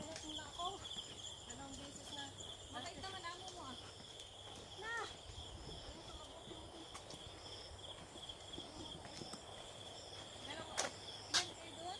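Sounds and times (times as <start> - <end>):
higher insect trill: 0.0 - 11.9
insects buzzing: 0.0 - 11.9.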